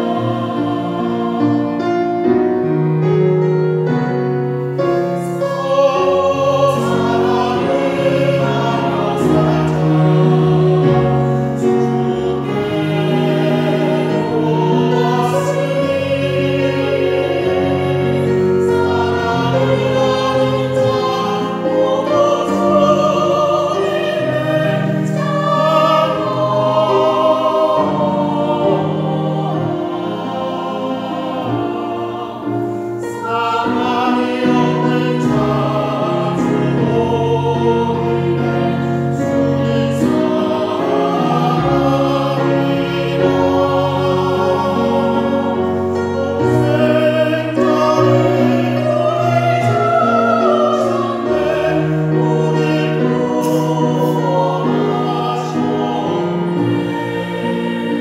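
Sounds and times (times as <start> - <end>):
instrumental accompaniment: 0.0 - 58.0
mixed choir singing a hymn: 0.0 - 58.0.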